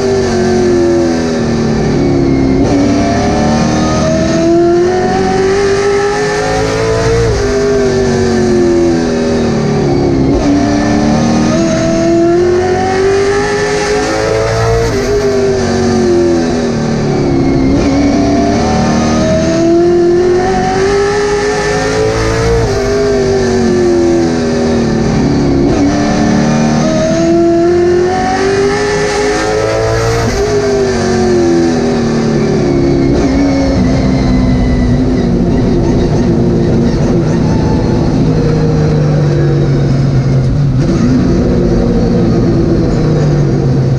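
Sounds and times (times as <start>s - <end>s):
race car engine: 0.0s - 43.9s.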